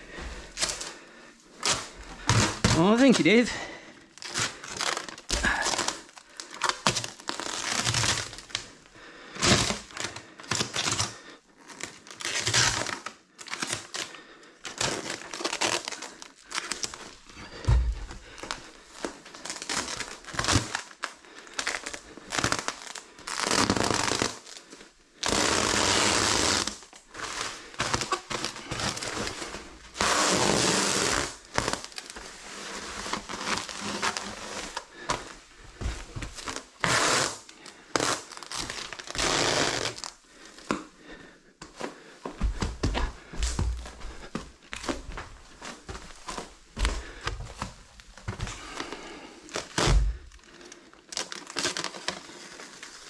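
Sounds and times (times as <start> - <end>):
plastic film crinkling and rustling: 1.6 - 17.4, 18.0 - 40.8, 42.6 - 53.0.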